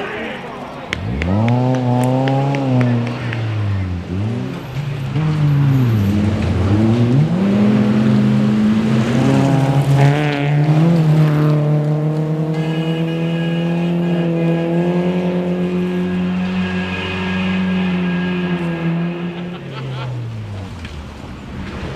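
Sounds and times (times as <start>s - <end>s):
rally car engine revving: 0.9s - 21.9s.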